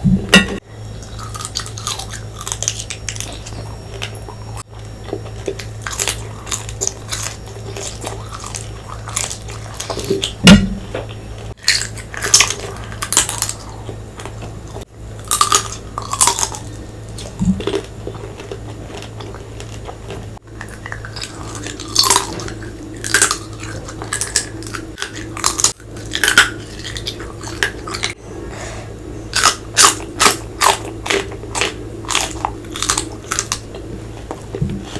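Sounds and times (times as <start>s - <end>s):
low hum: 0.0s - 34.9s
person chewing crunchy food: 0.0s - 34.9s.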